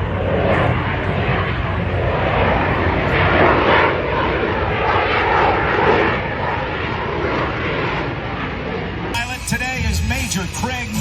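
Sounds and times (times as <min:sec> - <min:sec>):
airplane engine in flight: 0:00.0 - 0:11.0.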